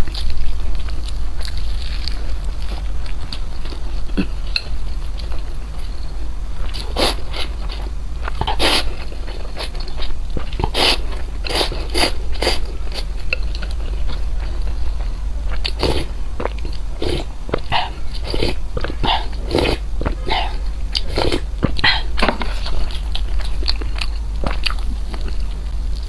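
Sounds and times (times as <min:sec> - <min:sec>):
crunchy chewing of food: 0:00.0 - 0:26.0
steady low hum: 0:00.0 - 0:26.0.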